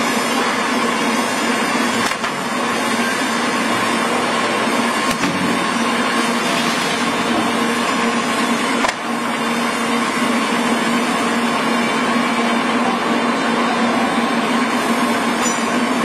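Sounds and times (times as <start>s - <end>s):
pallet crusher motor humming: 0.0s - 16.0s.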